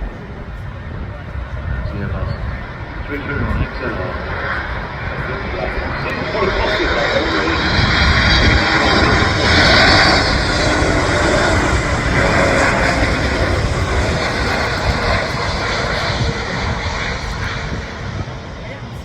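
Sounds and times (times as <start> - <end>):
jet airliner flying past: 0.0 - 19.0.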